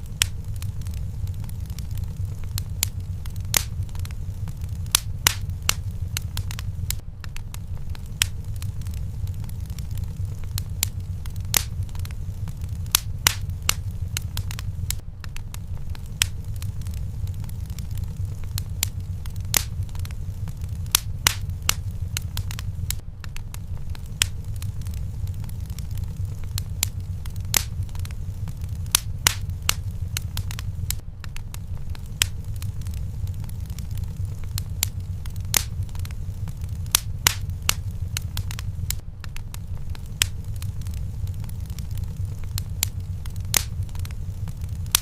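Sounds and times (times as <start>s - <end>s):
fire flames rumbling: 0.0s - 45.0s
wood fire crackling and popping: 0.0s - 45.0s.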